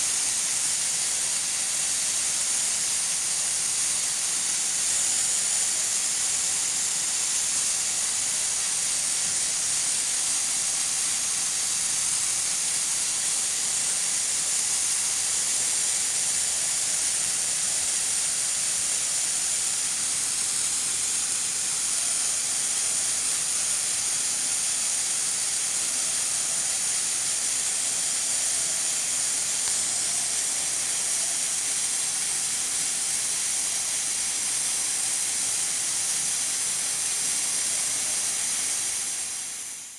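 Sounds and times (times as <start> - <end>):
pressure cooker steam hissing: 0.0 - 39.9.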